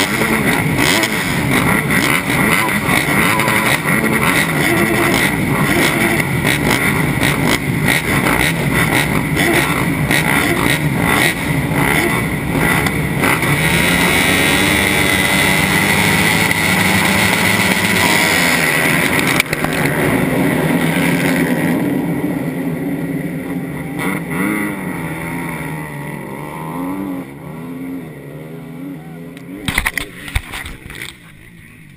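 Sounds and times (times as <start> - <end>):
motocross bikes revving: 0.0 - 31.9.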